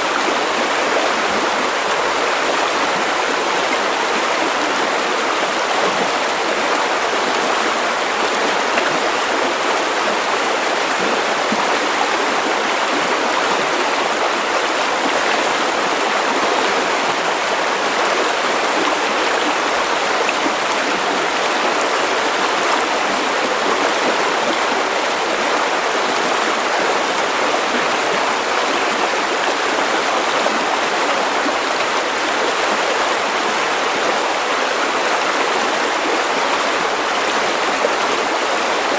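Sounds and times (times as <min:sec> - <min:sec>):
river water over stones: 0:00.0 - 0:38.9.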